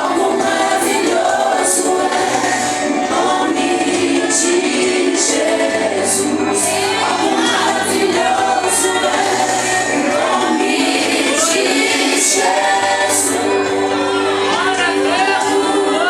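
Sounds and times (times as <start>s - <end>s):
group of voices singing: 0.0s - 16.0s.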